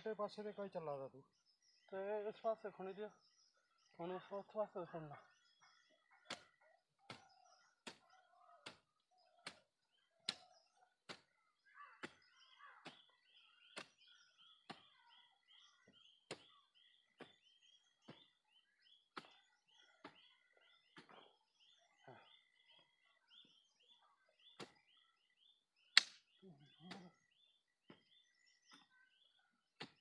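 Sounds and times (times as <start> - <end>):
small birds calling: 0.0 - 30.0.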